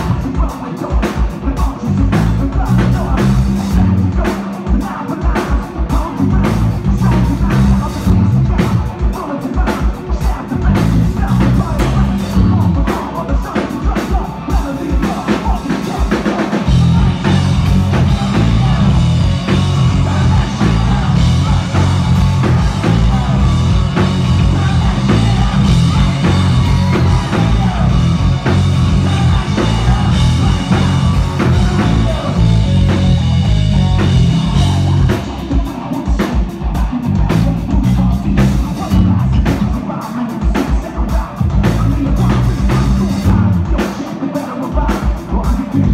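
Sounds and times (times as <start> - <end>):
rock band playing live: 0.0 - 45.9.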